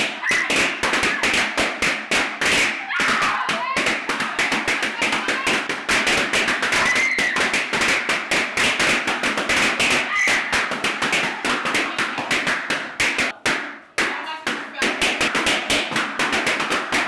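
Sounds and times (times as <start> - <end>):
balloons popping: 0.0 - 17.0.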